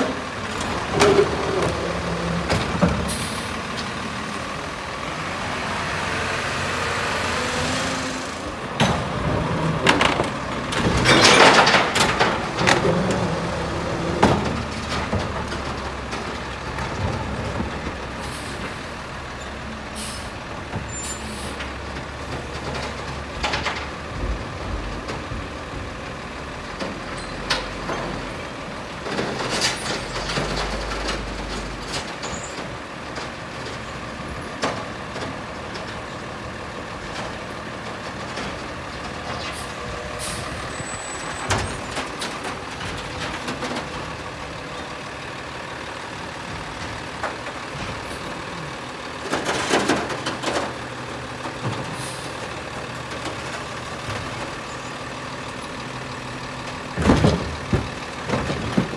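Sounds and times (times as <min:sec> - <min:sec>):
garbage truck running: 0:00.0 - 0:58.9.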